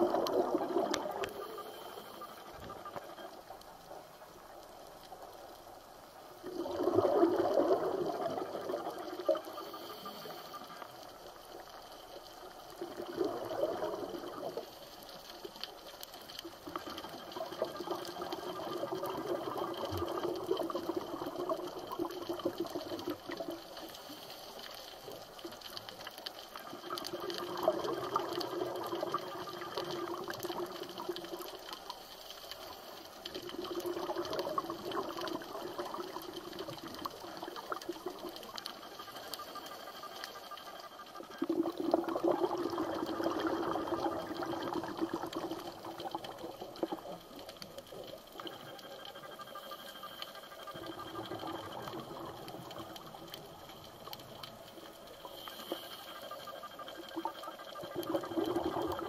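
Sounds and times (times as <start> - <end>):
underwater exhaust bubbles: 0.0 - 59.0.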